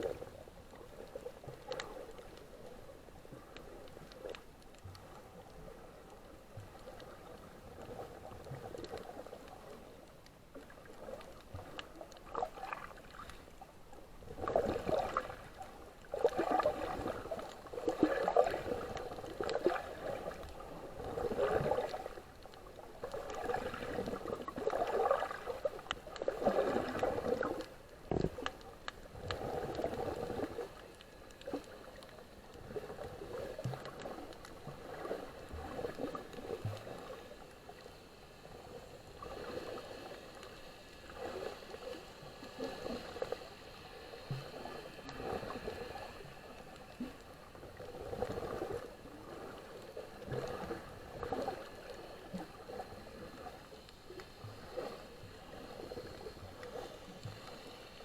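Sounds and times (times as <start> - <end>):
water gurgling and sloshing: 0.0 - 58.0.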